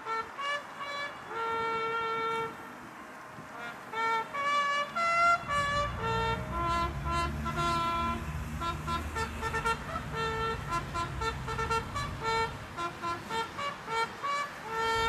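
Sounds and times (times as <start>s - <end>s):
brass instrument slow melody: 0.0s - 15.0s.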